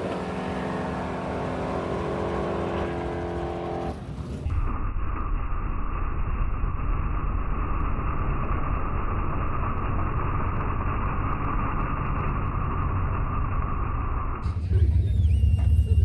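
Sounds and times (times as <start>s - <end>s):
muffled vehicle engine running: 0.0s - 16.0s.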